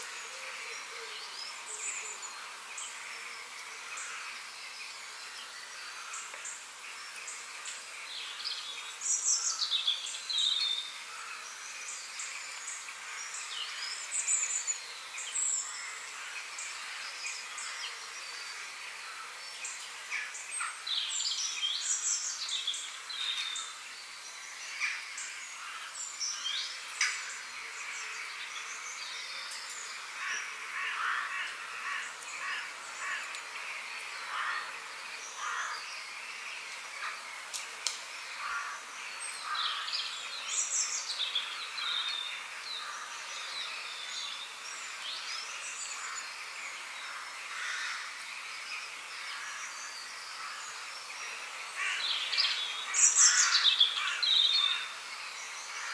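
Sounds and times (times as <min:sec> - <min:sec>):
small birds chirping: 0:00.0 - 0:55.9
steady background hiss: 0:00.0 - 0:55.9.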